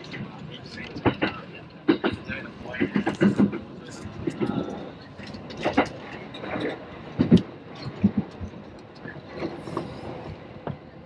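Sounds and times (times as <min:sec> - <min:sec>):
wheels clacking over rail joints: 0:00.0 - 0:09.9
train rumbling on track: 0:00.0 - 0:11.0.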